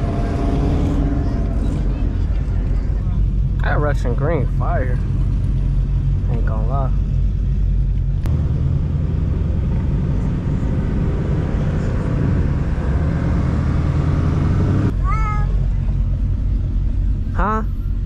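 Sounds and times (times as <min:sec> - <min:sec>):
car engine running loudly: 0:00.0 - 0:18.0.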